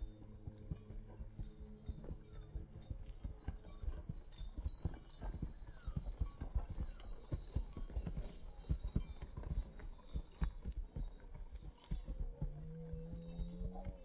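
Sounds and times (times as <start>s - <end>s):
horses galloping on grass: 0.0s - 14.0s.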